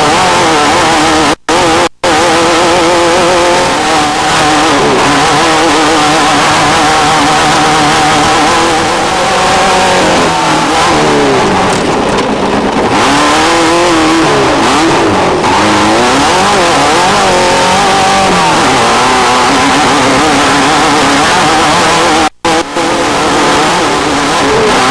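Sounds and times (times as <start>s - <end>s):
race vehicle engine revving: 0.0s - 24.9s.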